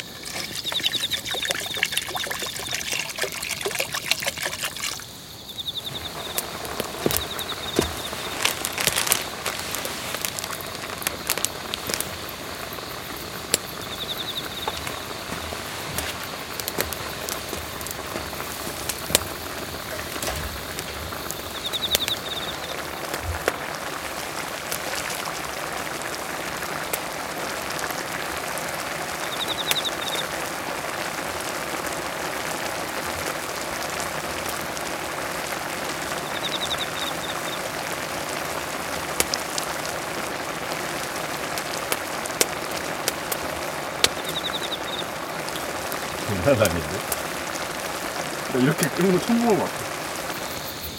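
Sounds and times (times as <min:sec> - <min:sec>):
stew sizzling and boiling: 0:00.0 - 0:50.9
wood fire crackling: 0:00.0 - 0:50.9.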